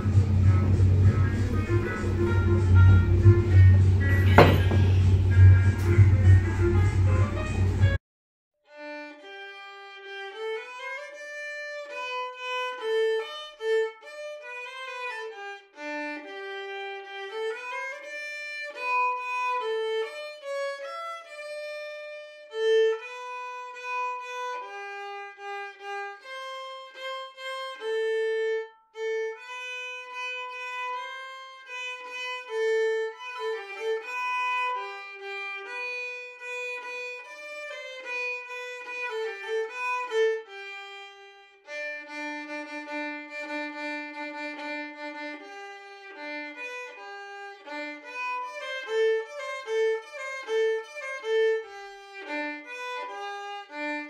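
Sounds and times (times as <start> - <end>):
violin melody: 0.0 - 8.0, 8.6 - 54.0.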